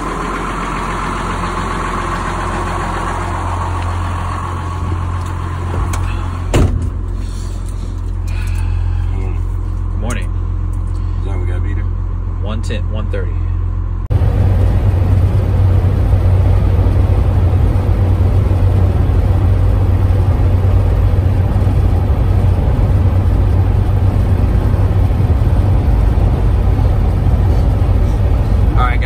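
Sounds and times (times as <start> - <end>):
road and tyre noise: 0.0 - 29.0
truck engine drone: 0.0 - 29.0.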